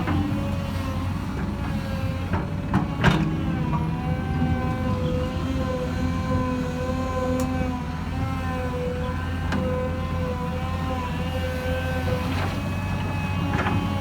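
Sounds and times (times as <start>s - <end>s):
excavator diesel rumble: 0.0s - 14.0s
hydraulic whine: 0.1s - 14.0s.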